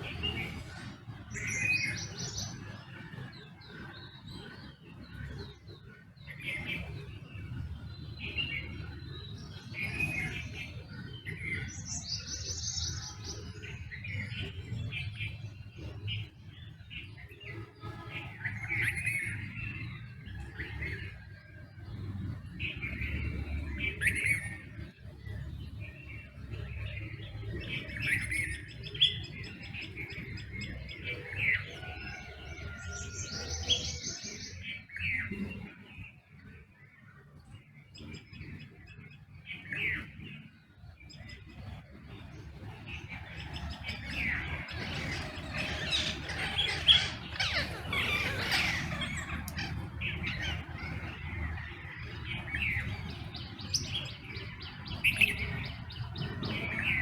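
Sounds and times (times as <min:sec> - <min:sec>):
low steady background rumble: 0:00.0 - 0:57.0
wild birds chirping and calling: 0:00.0 - 0:57.0.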